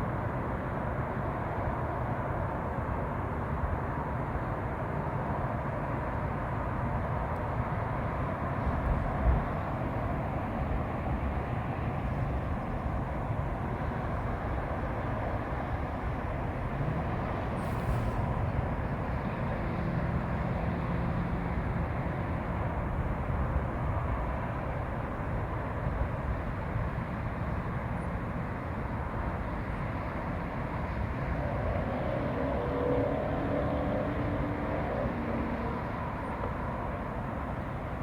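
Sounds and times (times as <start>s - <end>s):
low rumbling outdoor noise: 0.0s - 38.0s.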